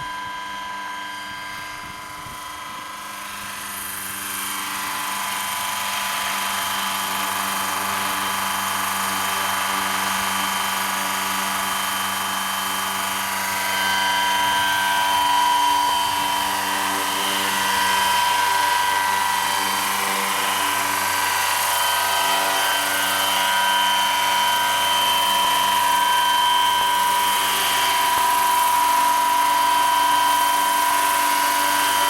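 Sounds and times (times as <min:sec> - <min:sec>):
model helicopter whine and rotor: 0:00.0 - 0:32.0.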